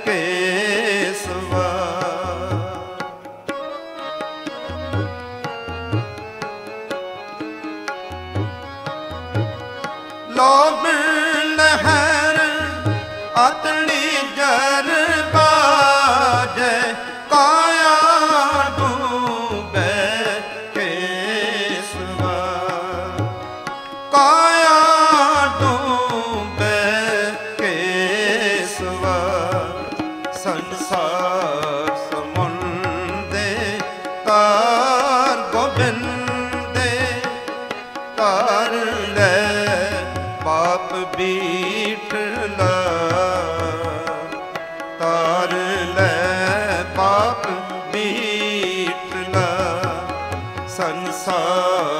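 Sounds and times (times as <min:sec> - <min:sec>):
harmonium notes: 0:00.0 - 0:51.9
man singing: 0:00.0 - 0:51.9
tabla rhythm: 0:00.0 - 0:51.9.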